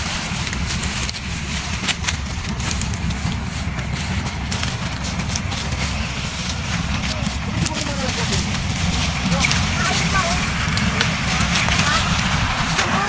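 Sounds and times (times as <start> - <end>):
dry corn leaves rustling: 0.0 - 13.0
engine rumbling: 0.0 - 13.0.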